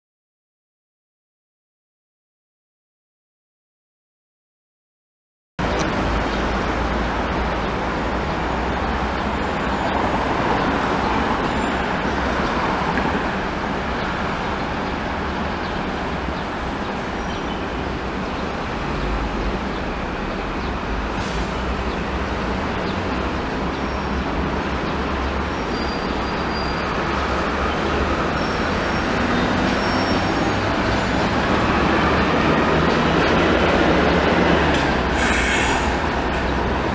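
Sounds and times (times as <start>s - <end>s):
traffic hum: 5.6s - 36.9s
tram running on rails: 5.6s - 36.9s.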